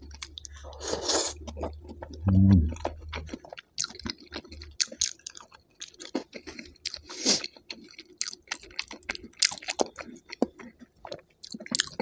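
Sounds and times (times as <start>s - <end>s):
person chewing with crunches: 0.0s - 12.0s.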